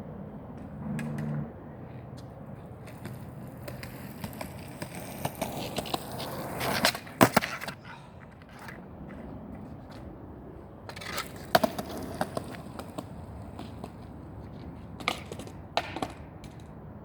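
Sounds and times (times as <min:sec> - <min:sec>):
skateboard wheels rolling on pavement: 0:00.0 - 0:17.0
skateboard clacking on ground: 0:00.5 - 0:10.1, 0:10.8 - 0:17.0.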